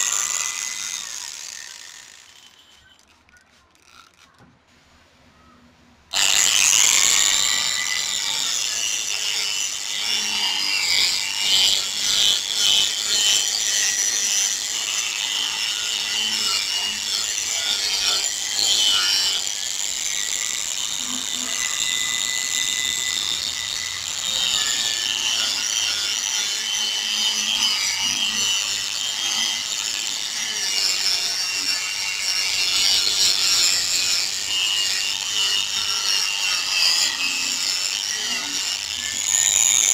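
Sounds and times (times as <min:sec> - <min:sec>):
power sander running: 0:00.0 - 0:02.7, 0:06.1 - 0:39.9.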